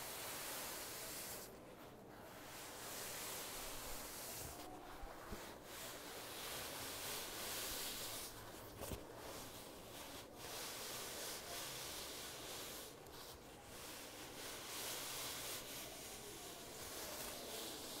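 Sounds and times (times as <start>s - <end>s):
fingertips rubbing corduroy: 0.1s - 18.0s.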